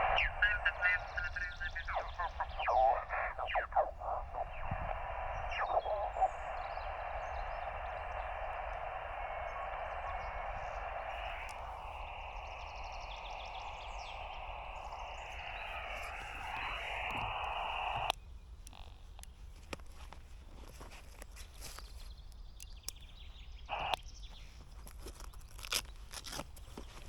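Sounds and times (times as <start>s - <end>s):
faint bird chirps: 0.0s - 19.0s, 21.5s - 25.5s
radio receiver hiss: 0.0s - 23.0s, 23.6s - 24.1s.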